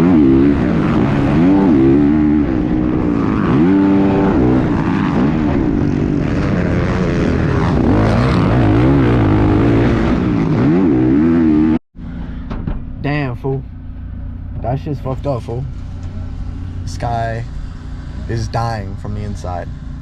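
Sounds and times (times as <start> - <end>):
dirt bike engines revving: 0.0 - 12.2, 14.6 - 20.0.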